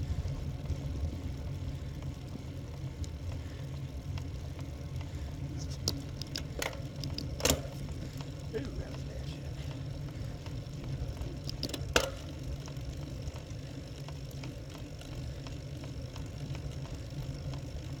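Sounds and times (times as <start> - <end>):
wind and road rumble: 0.0 - 18.0.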